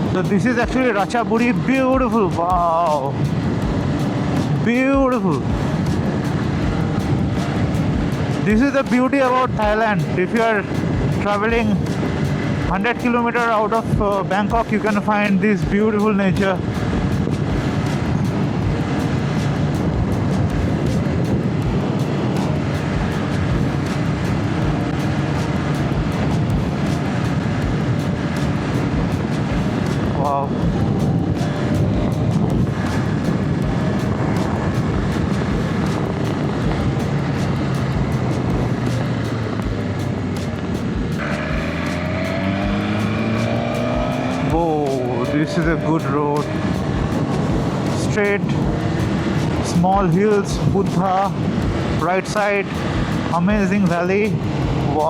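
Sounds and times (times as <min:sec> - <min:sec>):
motorcycle engine cruising: 0:00.0 - 0:55.0
road noise: 0:00.0 - 0:55.0
wind rush on microphone: 0:00.0 - 0:55.0.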